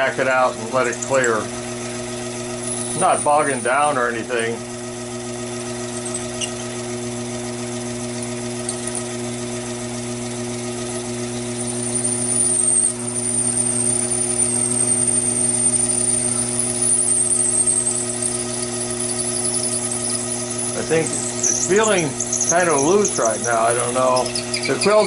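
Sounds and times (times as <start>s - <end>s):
high wavering drill squeal: 0.0s - 25.0s
lathe running: 0.0s - 25.0s.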